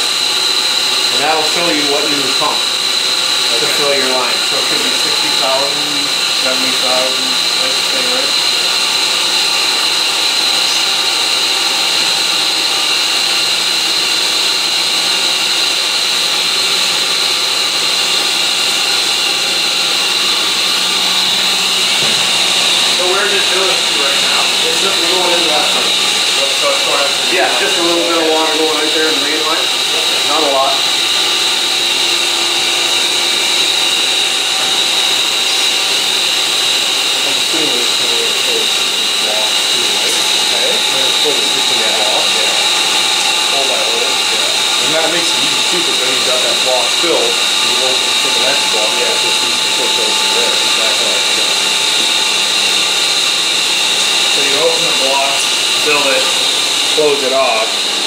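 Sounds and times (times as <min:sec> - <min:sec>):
pump mechanical whir: 0:00.0 - 0:58.0
steady high whine: 0:00.0 - 0:58.0.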